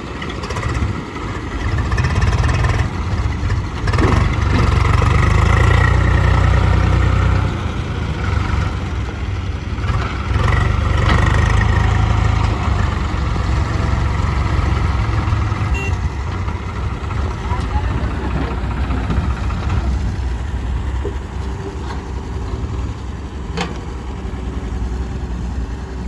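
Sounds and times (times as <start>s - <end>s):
heavy diesel engine rumbling: 0.0s - 26.0s.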